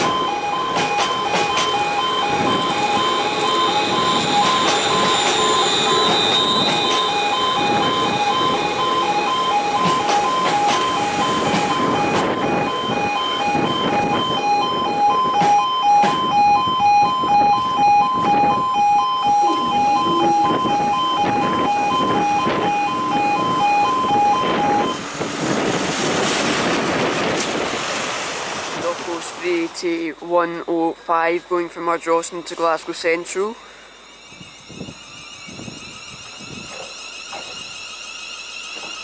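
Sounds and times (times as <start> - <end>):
level crossing alarm beeping: 0.0 - 25.7, 29.1 - 39.0.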